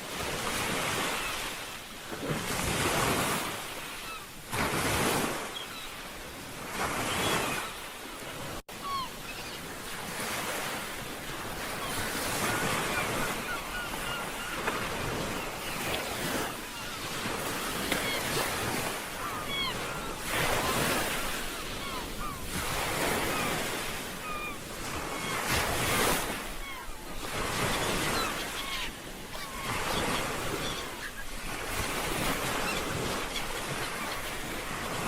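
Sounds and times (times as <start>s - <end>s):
ocean waves breaking on beach: 0.0s - 35.0s.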